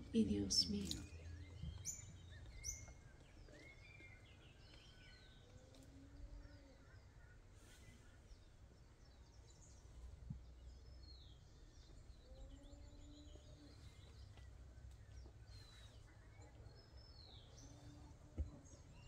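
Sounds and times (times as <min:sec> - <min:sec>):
faint birdsong chirps: 0:00.0 - 0:19.0.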